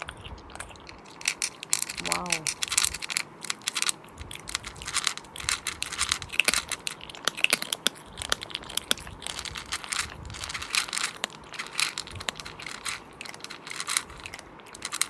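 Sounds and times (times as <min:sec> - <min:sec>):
wet chewing and smacking: 0:00.0 - 0:15.0.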